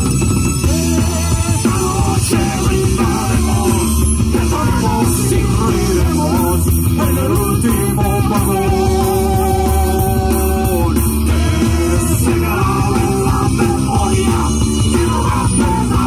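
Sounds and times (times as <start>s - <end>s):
bass guitar: 0.0s - 16.0s
drums: 0.0s - 16.0s
electric guitars: 0.0s - 16.0s
person singing: 0.7s - 16.0s.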